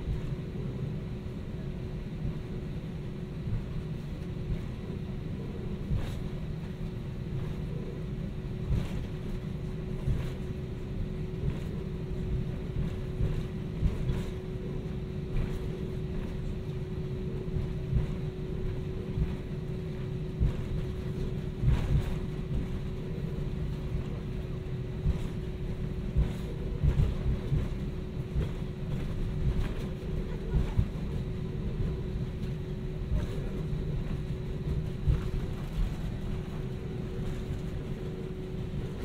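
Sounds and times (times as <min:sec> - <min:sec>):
aircraft cabin engine rumble: 0:00.0 - 0:39.0.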